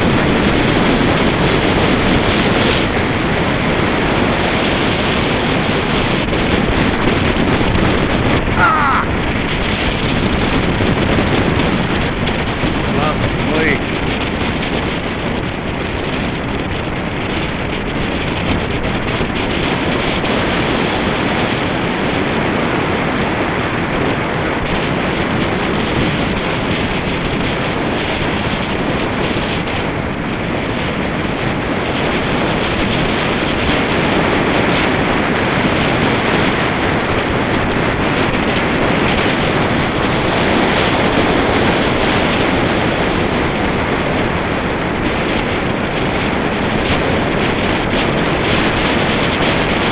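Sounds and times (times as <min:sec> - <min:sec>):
wind rushing on microphone: 0:00.0 - 0:49.9.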